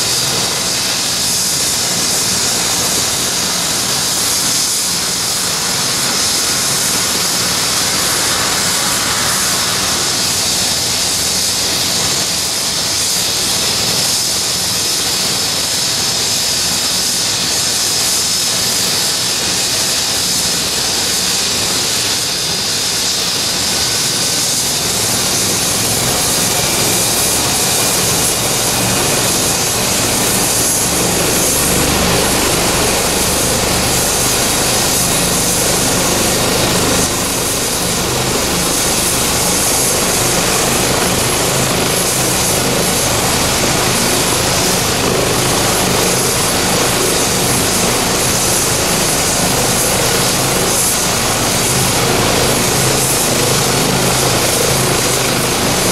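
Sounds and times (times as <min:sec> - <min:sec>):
helicopter rotor and engine noise: 0:00.0 - 0:55.9
helicopter turbine whine: 0:00.0 - 0:55.9.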